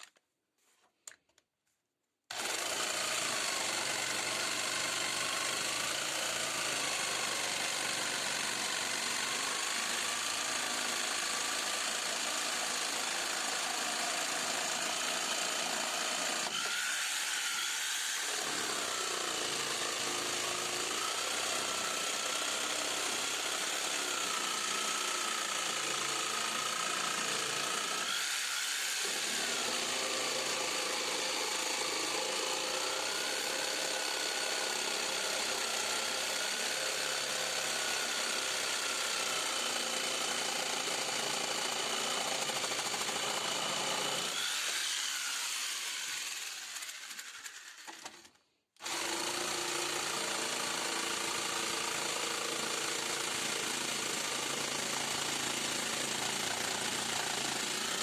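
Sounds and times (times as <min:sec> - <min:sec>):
power tool motor whine: 0:02.3 - 0:58.0.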